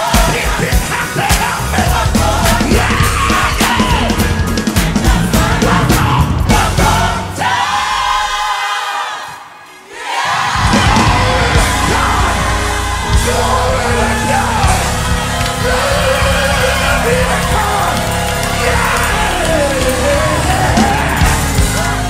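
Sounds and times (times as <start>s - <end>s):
band with heavy bass: 0.0s - 7.6s, 10.4s - 22.0s
gospel choir singing: 0.0s - 22.0s.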